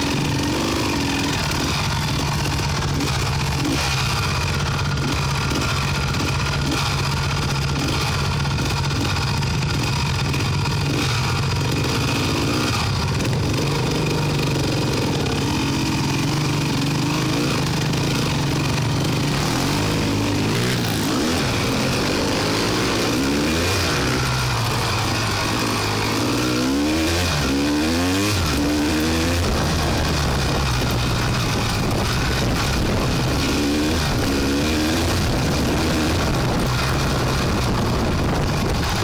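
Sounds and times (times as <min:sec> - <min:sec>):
quad bike engine revving: 0:00.0 - 0:39.0.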